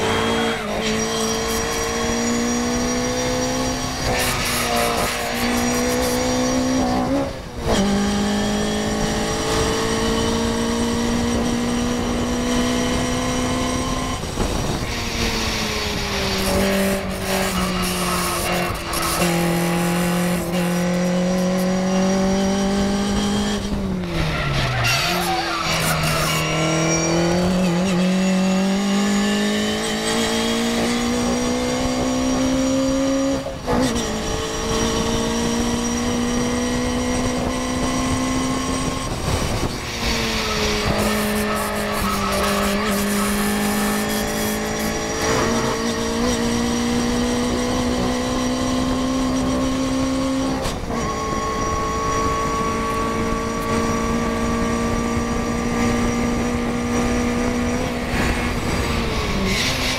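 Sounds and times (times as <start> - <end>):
race car engine under full throttle: 0.0 - 59.9
wind noise: 0.0 - 59.9.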